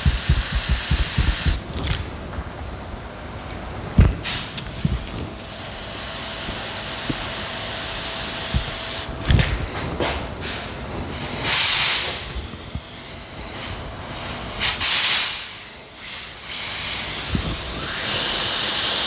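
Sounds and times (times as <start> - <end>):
air tool hissing: 0.0 - 1.9, 4.2 - 9.2, 10.4 - 19.0.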